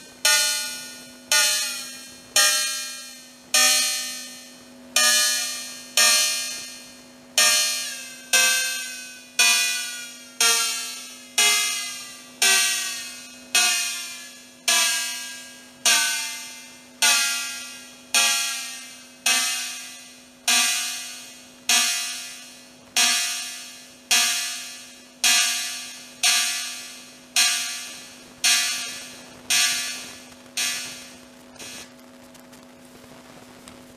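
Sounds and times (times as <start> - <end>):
electronic cowbell hits: 0.0 - 31.9
faint steady tone: 0.0 - 32.3.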